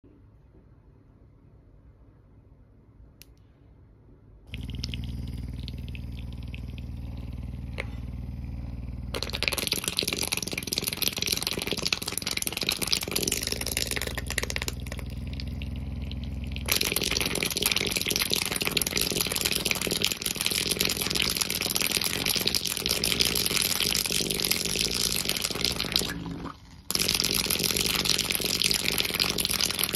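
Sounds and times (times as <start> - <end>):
small motor humming: 4.5 - 29.9.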